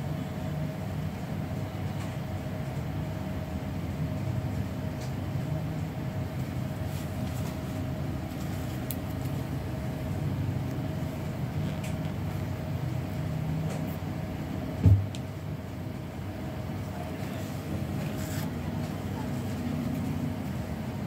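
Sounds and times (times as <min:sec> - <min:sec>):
faint constant hum: 0:00.0 - 0:21.0.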